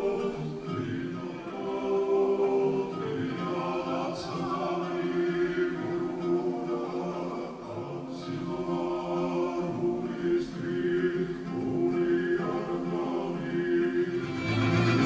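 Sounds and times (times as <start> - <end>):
choir singing unaccompanied: 0.0 - 15.0
sustained vocal drone: 0.0 - 15.0.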